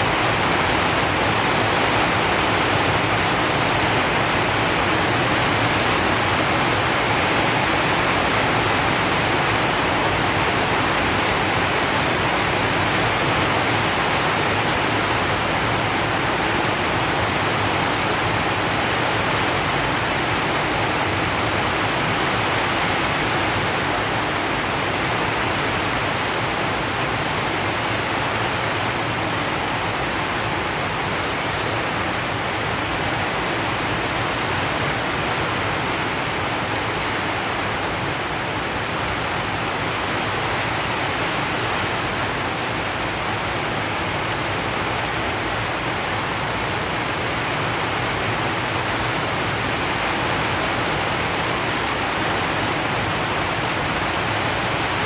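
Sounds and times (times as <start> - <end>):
rain on a metal sheet roof: 0.0 - 55.0.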